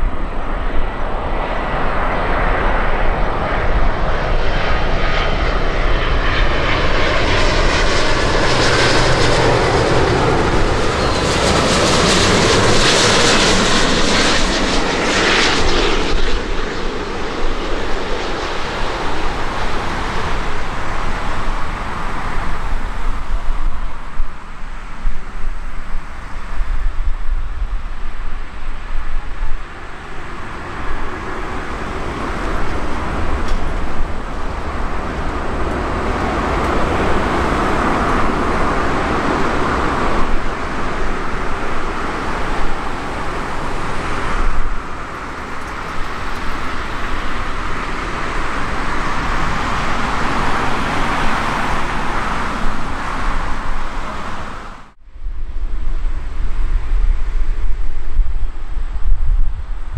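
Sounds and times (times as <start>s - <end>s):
jet engine roar: 0.0s - 59.9s.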